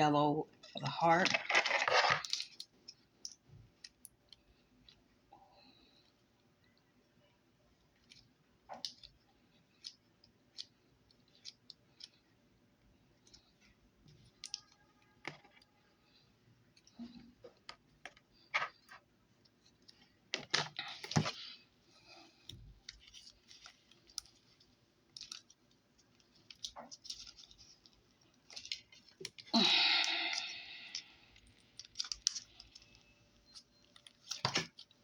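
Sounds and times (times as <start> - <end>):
rustling: 1.1 - 5.0, 7.9 - 35.0.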